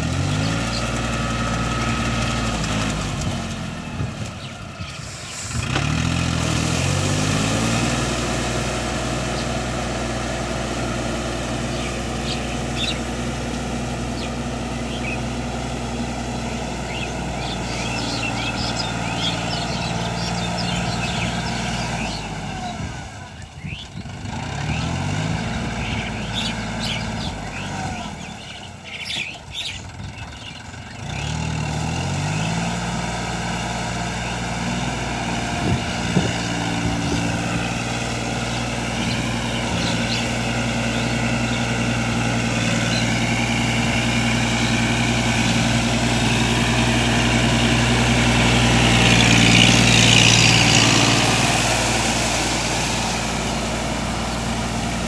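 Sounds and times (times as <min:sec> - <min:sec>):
birds chirping: 0:00.0 - 0:55.0
tractor diesel engine running: 0:00.0 - 0:55.0.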